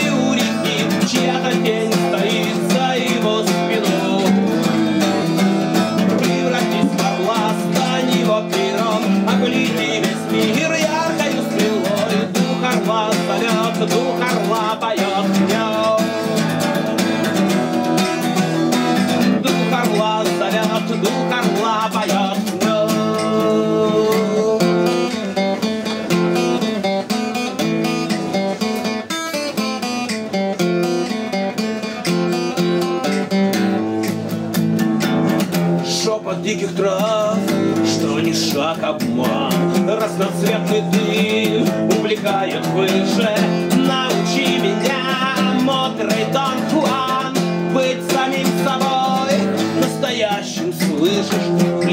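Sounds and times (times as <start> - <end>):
man singing: 0.0 - 28.7, 31.0 - 51.9
acoustic guitar strumming: 0.0 - 51.9.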